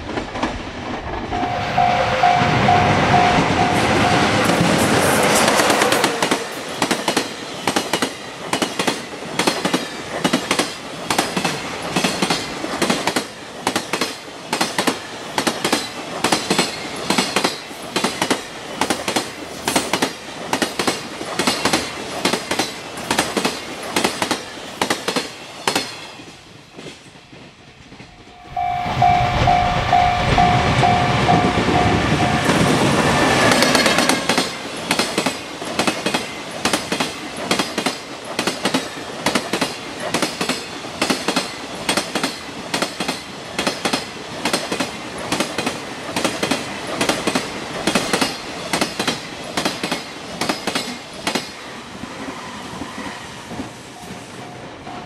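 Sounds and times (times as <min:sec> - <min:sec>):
electric locomotive rushing past: 0:00.0 - 0:14.0, 0:14.9 - 0:55.0
train wheels clacking over rail joints: 0:02.7 - 0:28.3, 0:30.4 - 0:55.0.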